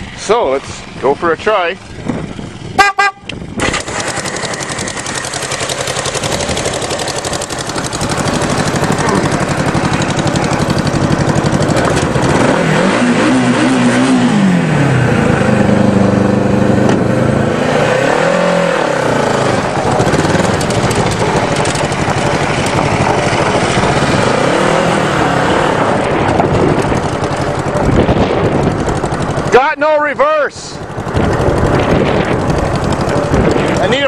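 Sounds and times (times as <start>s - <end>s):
go-kart engine revving: 1.9s - 34.0s.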